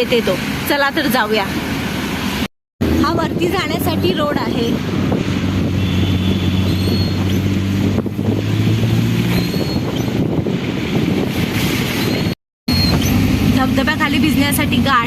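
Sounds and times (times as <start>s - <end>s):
vehicle engine humming: 0.0s - 15.0s
wind noise on microphone: 2.8s - 15.0s.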